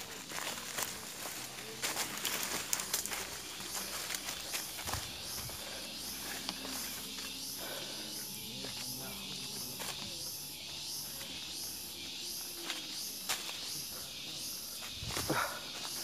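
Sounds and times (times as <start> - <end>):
footsteps on dry leaves: 0.0 - 10.5, 12.5 - 16.0
insects pulsing chorus: 0.0 - 16.0.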